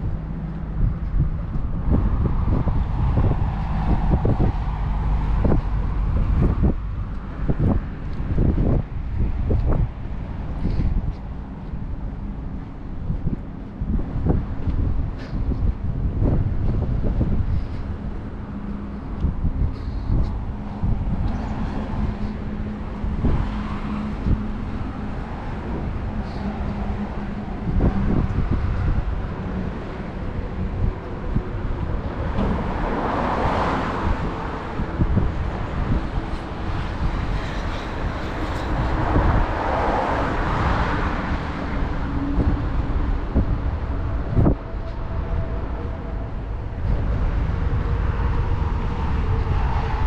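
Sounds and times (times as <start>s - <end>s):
cars running past: 0.0s - 50.0s
low engine hum: 0.0s - 50.0s
wind buffeting microphone: 0.0s - 50.0s.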